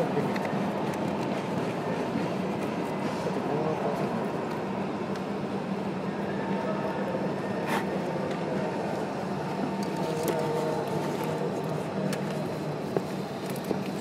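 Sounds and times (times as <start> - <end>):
electric locomotive humming: 0.0 - 14.0.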